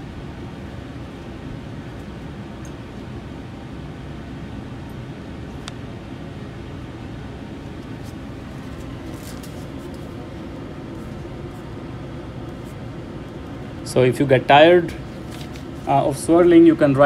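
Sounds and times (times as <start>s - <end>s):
ventilation rushing noise: 0.0s - 17.0s.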